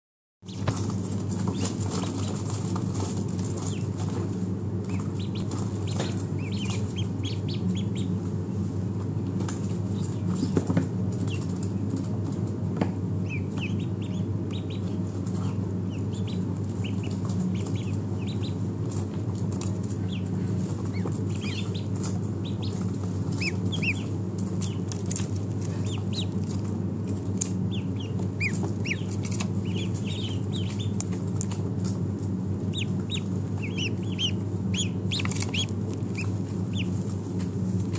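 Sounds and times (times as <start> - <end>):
ducklings peeping: 0.4 - 37.9
steady low hum: 0.4 - 37.9.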